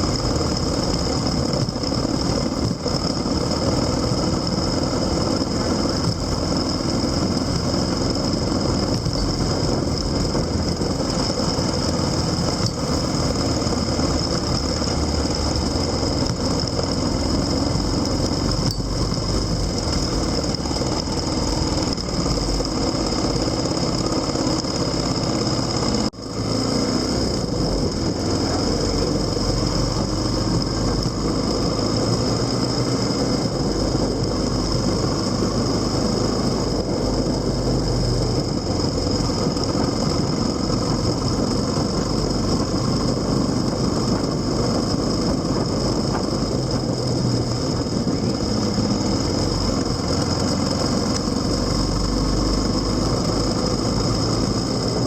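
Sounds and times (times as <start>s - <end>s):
vehicle running noise: 0.0s - 55.0s.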